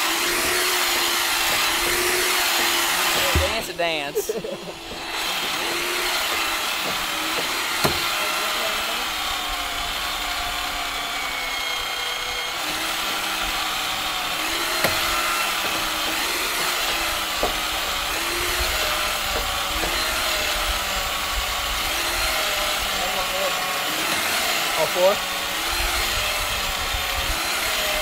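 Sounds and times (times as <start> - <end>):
electric winch motor whining: 0.0 - 28.0.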